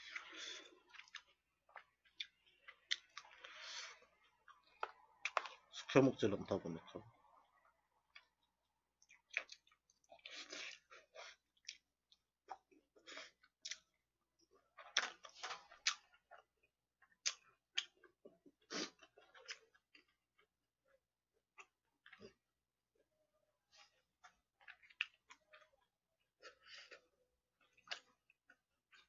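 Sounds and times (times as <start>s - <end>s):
person chewing food: 0.0s - 5.9s, 7.1s - 29.0s.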